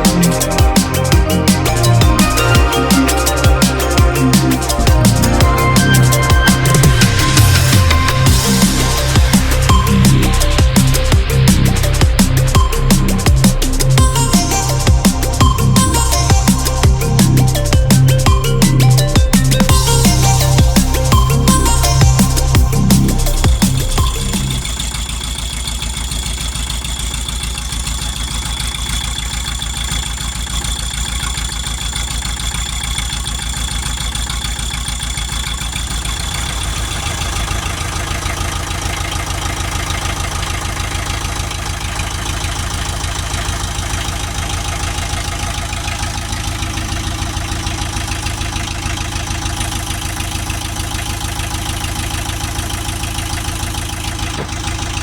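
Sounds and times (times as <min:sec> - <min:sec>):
diesel engine idling with clatter: 0:00.0 - 0:55.0.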